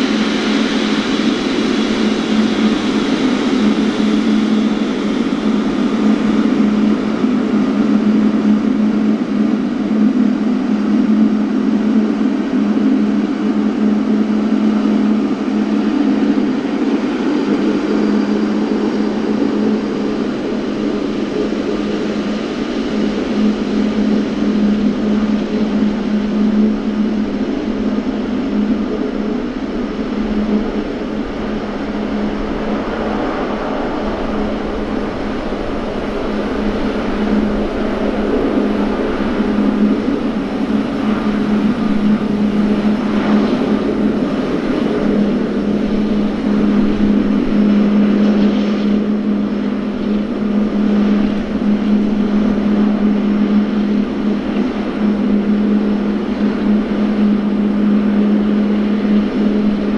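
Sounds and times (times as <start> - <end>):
jet engines whining at taxi power: 0.0 - 59.9.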